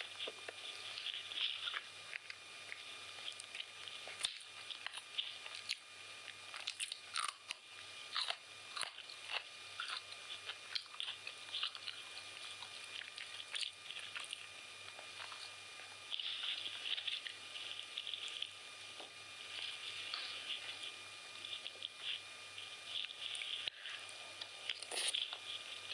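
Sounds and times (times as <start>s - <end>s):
faint steady hum: 0.0s - 25.9s
person chewing food: 0.0s - 25.9s.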